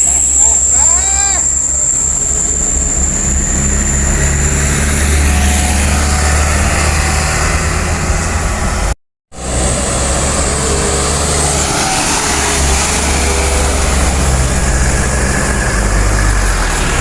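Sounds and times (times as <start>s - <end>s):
road noise: 0.0s - 17.0s
truck engine climbing: 0.0s - 17.0s.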